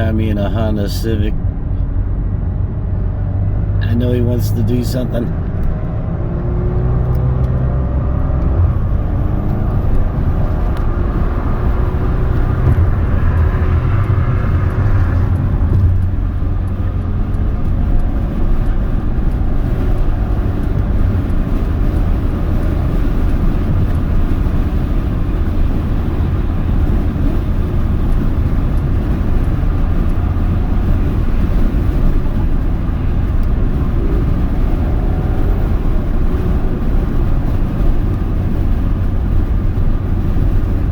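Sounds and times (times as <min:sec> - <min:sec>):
car engine: 0:00.0 - 0:40.9
wind and road rush: 0:00.0 - 0:40.9.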